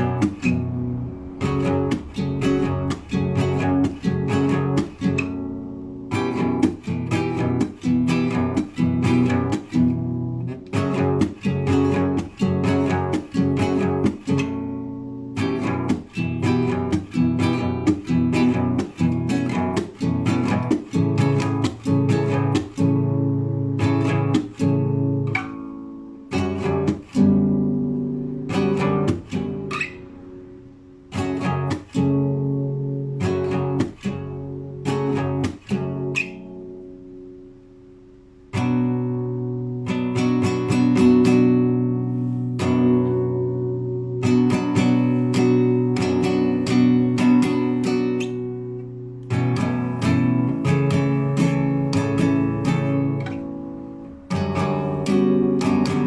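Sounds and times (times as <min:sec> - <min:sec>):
solo guitar improvising: 0:00.0 - 0:56.0.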